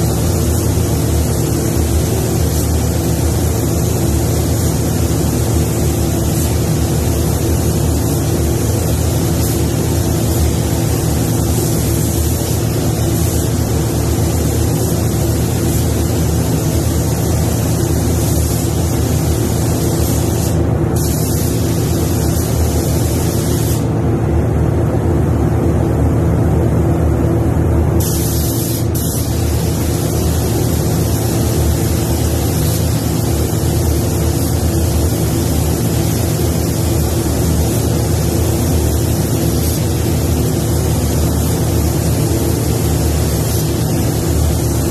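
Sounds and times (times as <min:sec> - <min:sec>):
spray gun hissing: 0:00.0 - 0:23.9, 0:28.0 - 0:44.9
steady low hum: 0:00.0 - 0:44.9.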